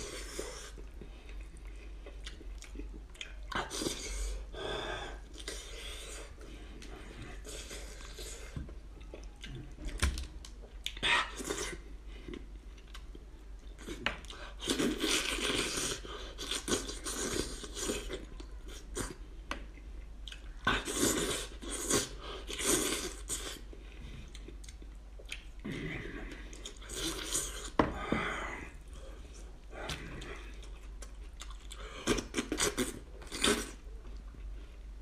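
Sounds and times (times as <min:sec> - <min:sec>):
man chewing meat: 0:00.0 - 0:04.5, 0:10.6 - 0:27.8, 0:28.7 - 0:35.0.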